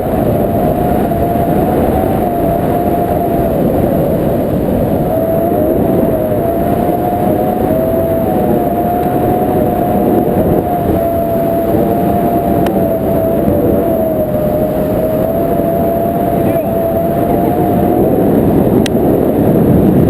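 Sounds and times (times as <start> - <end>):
moving vehicle rumble: 0.0 - 20.0
thin wavering whine: 0.0 - 20.0.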